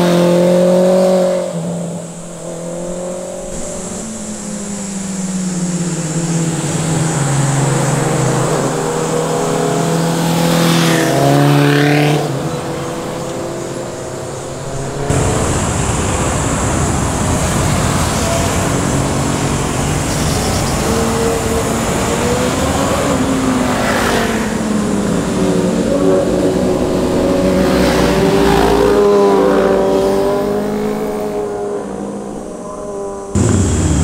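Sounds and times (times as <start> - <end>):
motorcycles revving past: 0.0 - 31.8, 33.3 - 34.0.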